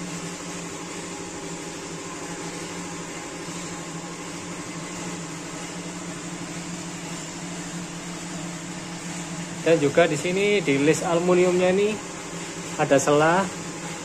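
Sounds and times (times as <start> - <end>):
blower fan humming: 0.0 - 14.0.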